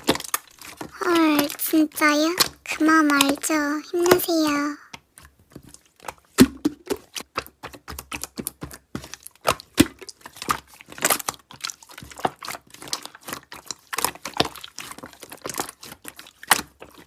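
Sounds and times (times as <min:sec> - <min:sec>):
slime clicking and crackling: 0:00.0 - 0:17.0.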